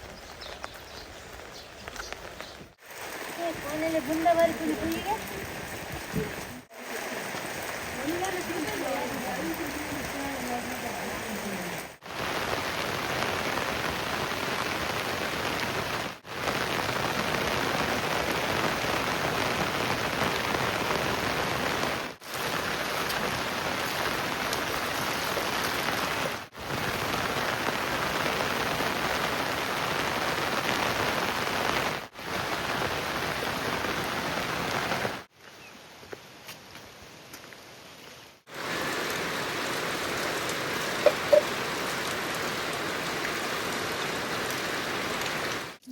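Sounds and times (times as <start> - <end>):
heavy rain pouring: 0.0 - 35.3, 38.4 - 45.9.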